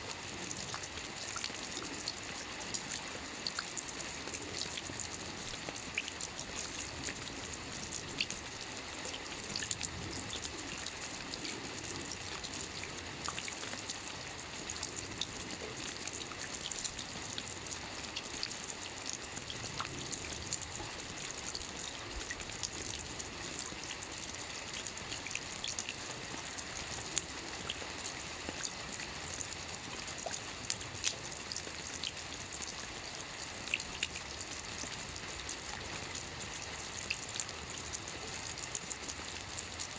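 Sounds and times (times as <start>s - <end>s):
steady rain: 0.0s - 39.9s
raindrops pattering: 0.1s - 39.9s.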